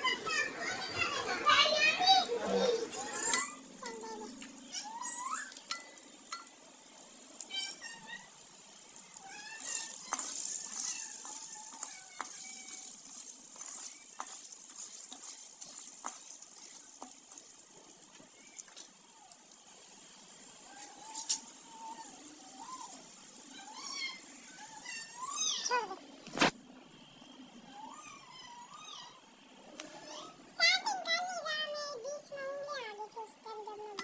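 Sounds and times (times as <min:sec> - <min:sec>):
popcorn sizzling in pan: 0:00.0 - 0:34.0.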